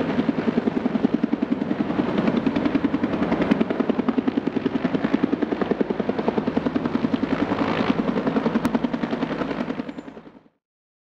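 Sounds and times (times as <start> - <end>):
helicopter rotor beating: 0.0 - 10.5.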